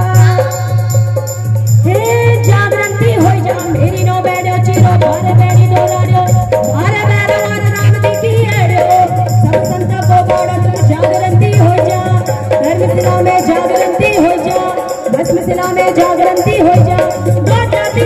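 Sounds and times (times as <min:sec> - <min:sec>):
drums beating: 0:00.0 - 0:18.0
folk music through sound system: 0:00.0 - 0:18.0.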